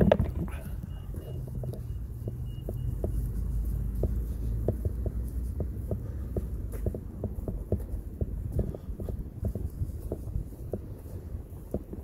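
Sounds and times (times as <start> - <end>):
footsteps on concrete: 0.0 - 12.0
wind rumble on microphone: 0.0 - 12.0.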